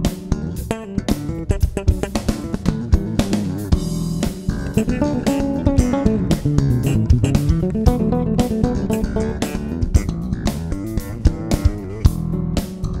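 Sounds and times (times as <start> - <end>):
plucked electric lute melody: 0.0 - 12.1
bass guitar: 0.0 - 13.0
drum kit beat: 0.0 - 13.0.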